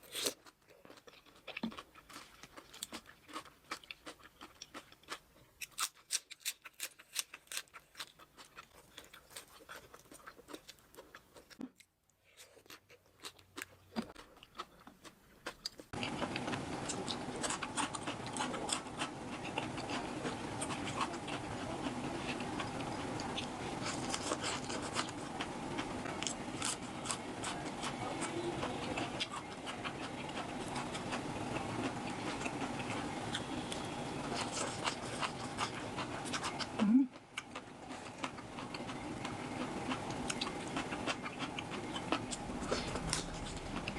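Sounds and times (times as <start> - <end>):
crisp chewing and crunching: 0.0 - 43.9.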